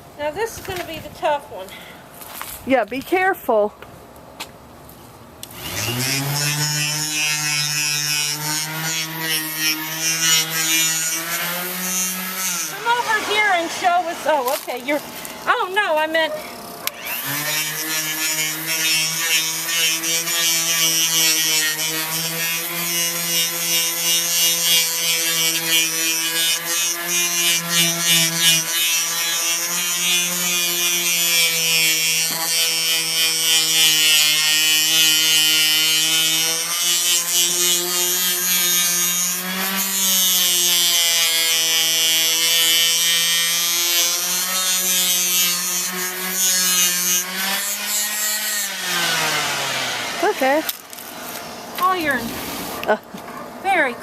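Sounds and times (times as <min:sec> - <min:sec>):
orbital sander whining and hissing: 0:05.4 - 0:53.0.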